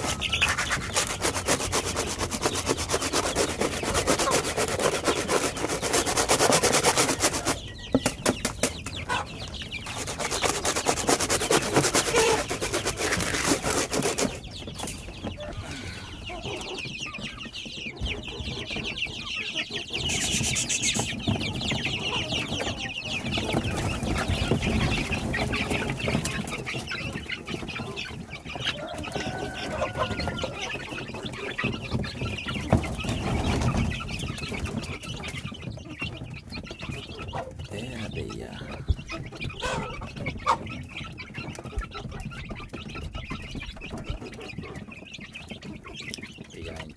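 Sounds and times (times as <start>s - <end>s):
rapid scraping and rubbing: 0.0s - 8.8s, 9.5s - 14.7s, 19.8s - 46.9s
chickens clucking: 0.0s - 46.9s.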